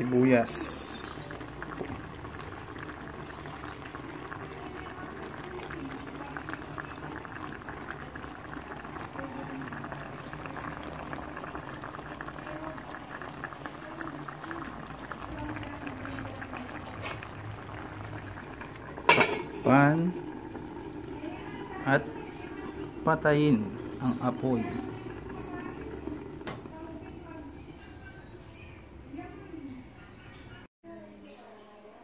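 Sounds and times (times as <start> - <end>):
sauce bubbling in a pan: 0.0 - 28.8.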